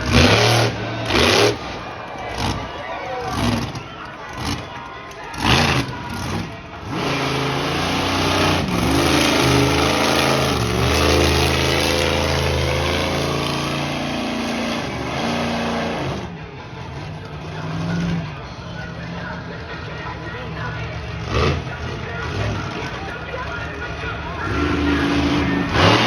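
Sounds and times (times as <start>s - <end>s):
large vehicle engine revving: 0.0s - 19.8s, 20.6s - 26.0s.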